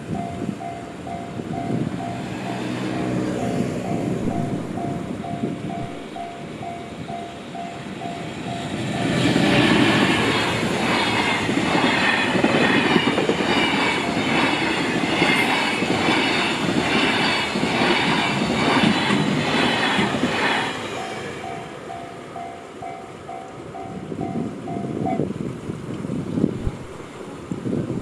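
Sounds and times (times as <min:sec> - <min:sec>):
train wheels clattering on rails: 0:00.0 - 0:25.2.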